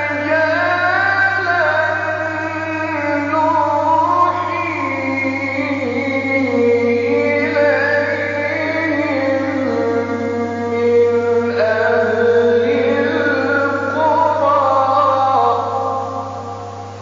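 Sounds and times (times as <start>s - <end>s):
man chanting melodically: 0.0s - 17.0s
steady low hum: 0.0s - 17.0s.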